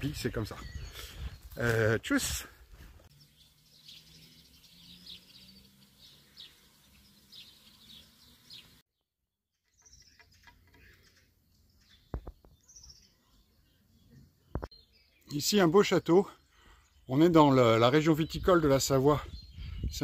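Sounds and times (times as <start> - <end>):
small birds chirping: 0.0 - 8.8, 9.6 - 20.0.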